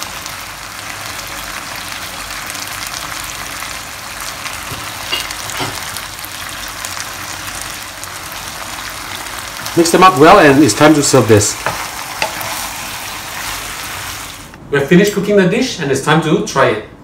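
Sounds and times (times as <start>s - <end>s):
stir-fry sizzling in pan: 0.0s - 14.6s.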